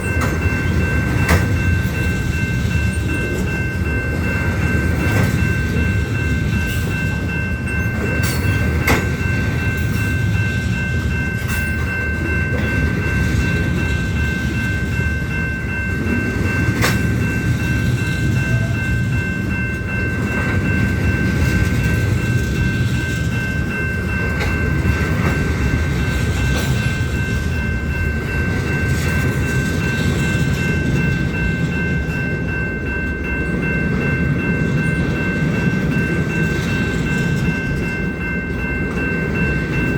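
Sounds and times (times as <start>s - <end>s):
train cars clanking: 0.0s - 39.9s
train wheels rumbling on rail: 0.0s - 39.9s.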